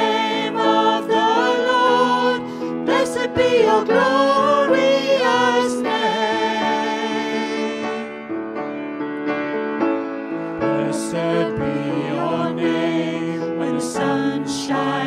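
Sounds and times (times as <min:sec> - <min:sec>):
mixed voices singing: 0:00.0 - 0:08.2, 0:10.6 - 0:15.0
grand piano accompaniment: 0:00.0 - 0:15.0.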